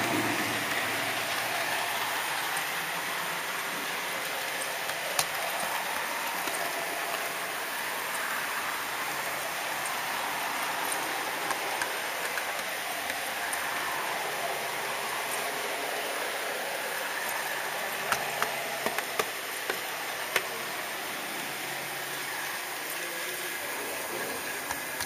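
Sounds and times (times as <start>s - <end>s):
model train rushing on rails: 0.0s - 25.0s.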